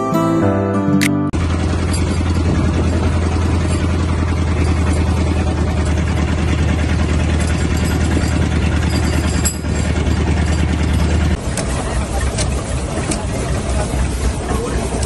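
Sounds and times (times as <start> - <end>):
boat engine running: 1.4 - 15.0.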